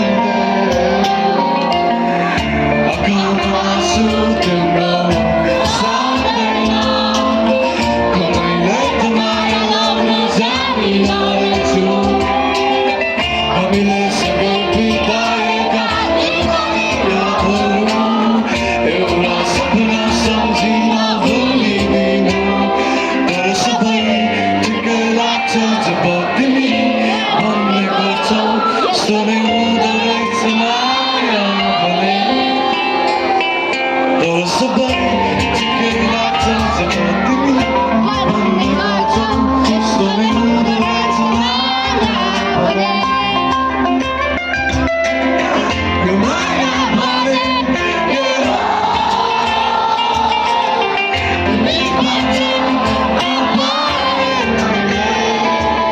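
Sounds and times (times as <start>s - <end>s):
instrumental accompaniment: 0.0s - 55.9s
live band music: 0.0s - 55.9s
person singing: 0.0s - 55.9s.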